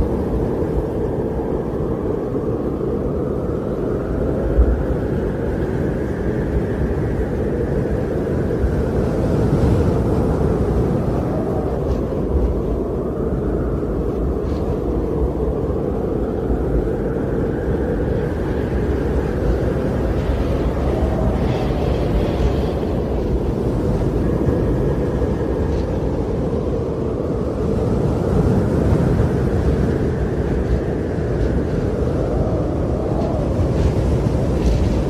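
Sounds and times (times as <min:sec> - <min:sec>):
strong wind gusting: 0:00.0 - 0:35.0.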